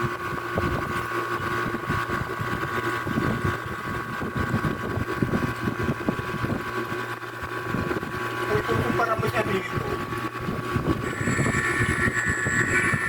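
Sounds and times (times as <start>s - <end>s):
airbrush compressor whining and rattling: 0.0s - 13.0s.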